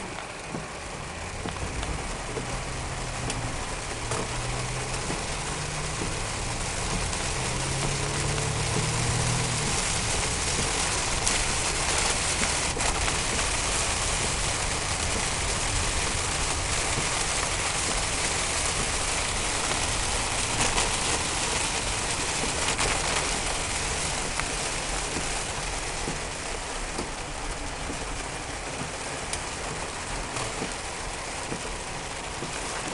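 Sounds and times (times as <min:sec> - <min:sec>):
heavy rain on a car: 0:00.0 - 0:32.9
tyre spray: 0:01.5 - 0:28.2.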